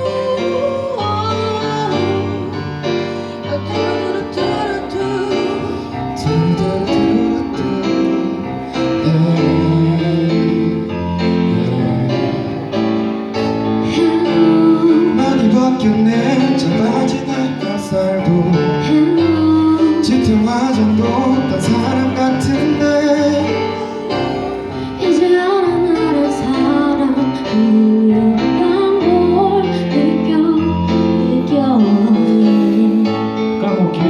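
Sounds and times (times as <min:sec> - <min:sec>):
keyboard: 0:00.0 - 0:34.0
person singing: 0:00.0 - 0:34.0.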